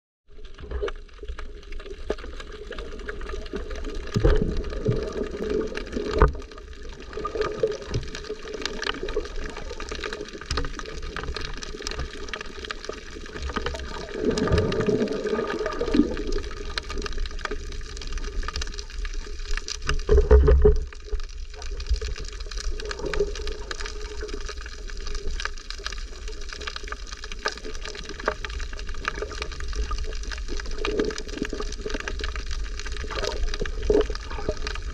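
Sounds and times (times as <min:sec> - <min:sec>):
sea water sloshing and gurgling: 0:00.3 - 0:34.9.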